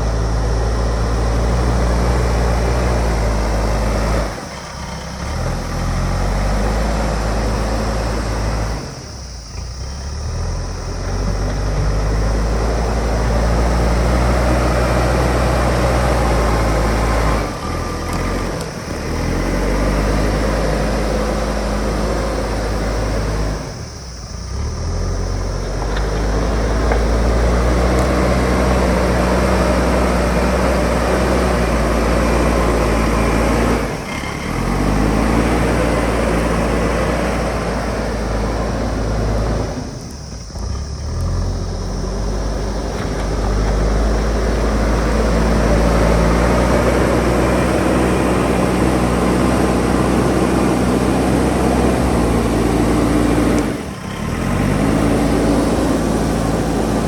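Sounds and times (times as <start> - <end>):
diesel engine revving under load: 0.0 - 57.0.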